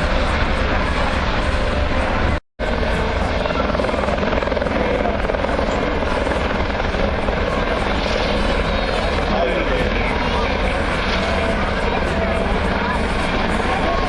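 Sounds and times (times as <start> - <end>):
helicopter turbine and rotor chop: 0.0 - 14.0.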